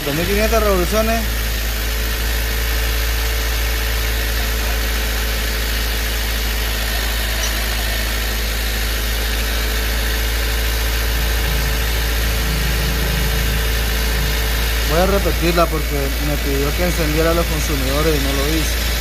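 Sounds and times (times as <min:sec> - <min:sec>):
car engine running at raised speed: 0:00.0 - 0:19.0.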